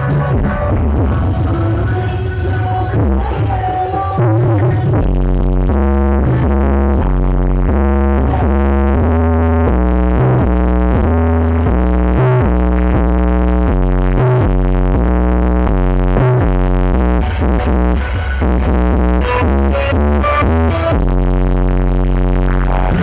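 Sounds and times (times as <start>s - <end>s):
loud electronic dance music: 0.0s - 23.0s.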